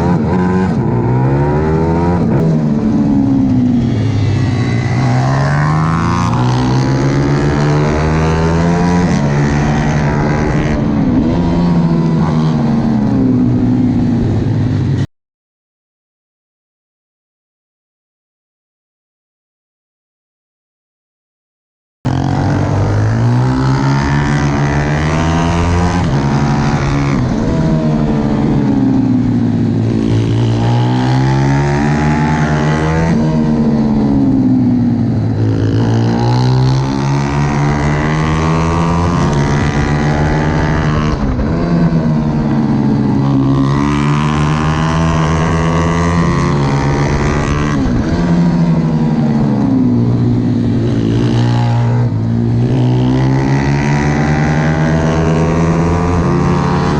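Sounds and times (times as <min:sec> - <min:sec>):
motorbike engine revving: 0:00.0 - 0:15.0, 0:22.1 - 0:56.9.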